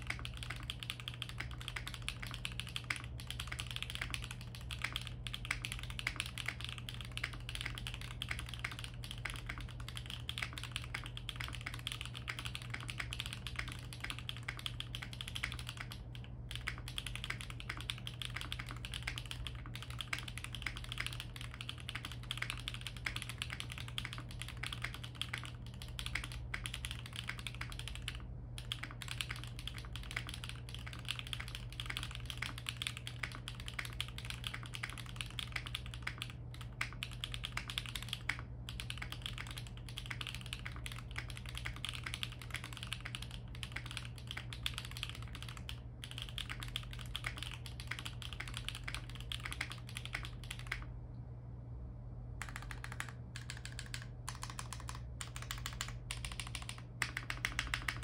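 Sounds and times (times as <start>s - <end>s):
mechanical keyboard typing: 0.0s - 50.9s, 52.4s - 58.0s
low steady hum: 0.0s - 58.0s.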